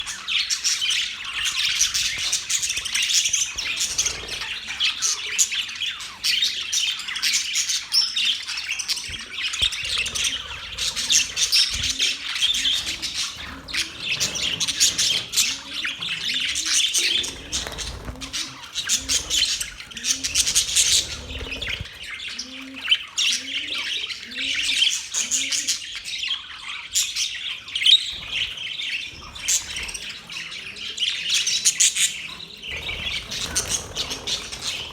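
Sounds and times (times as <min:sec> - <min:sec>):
budgerigars chirping and warbling: 0:00.0 - 0:34.9.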